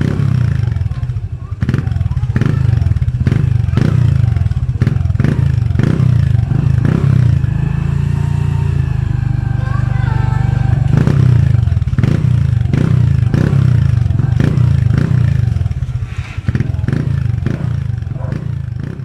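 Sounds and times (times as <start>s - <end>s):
motorcycle exhaust with ticking pops: 0.0s - 8.0s, 10.8s - 15.8s, 16.5s - 19.0s.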